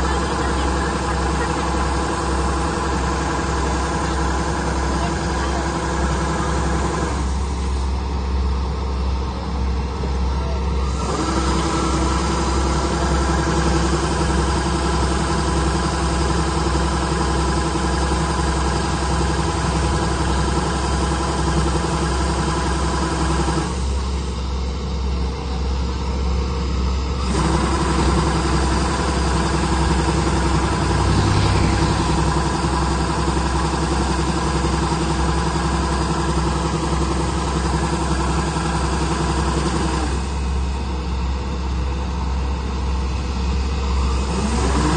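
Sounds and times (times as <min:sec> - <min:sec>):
heavy machine engine rumbling: 0:00.0 - 0:44.9.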